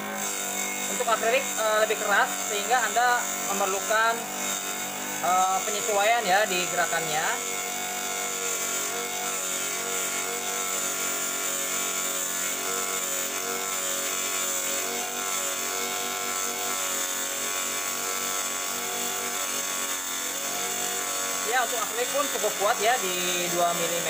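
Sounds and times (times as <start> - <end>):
blade cutting acrylic hiss: 0.0 - 24.0
table saw motor whine: 0.0 - 24.0.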